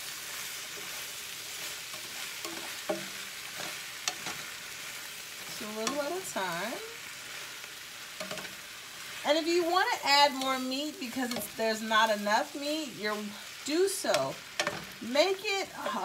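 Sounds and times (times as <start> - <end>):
food sizzling in a pan: 0.0 - 16.0
spatula scraping pan: 0.2 - 16.0.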